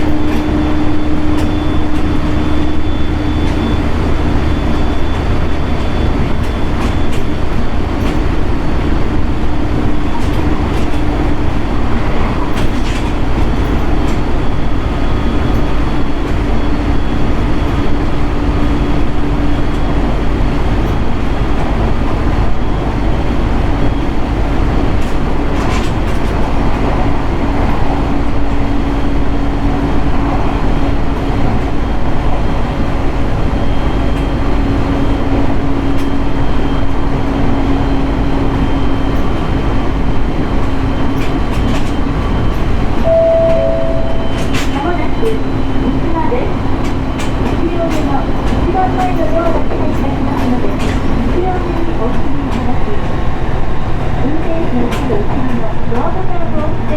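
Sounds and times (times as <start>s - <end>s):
rail joint clicks: 0.0s - 56.9s
steady train hum: 0.0s - 56.9s
train wheels rumbling on rail: 0.0s - 56.9s.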